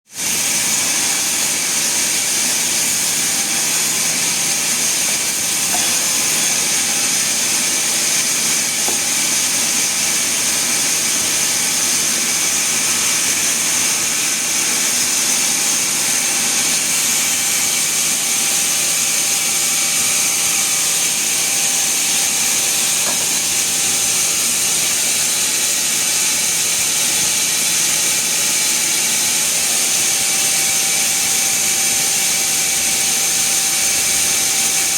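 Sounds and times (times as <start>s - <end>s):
sawmill machinery hissing: 0.1s - 34.9s.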